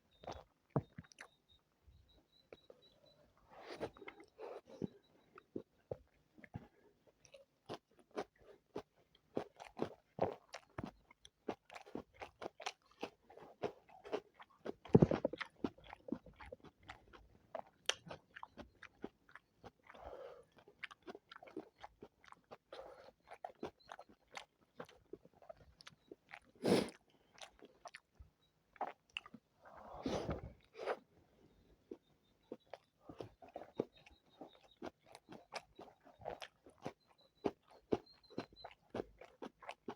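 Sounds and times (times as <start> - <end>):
close chewing and biting: 3.5 - 31.1, 31.8 - 39.9.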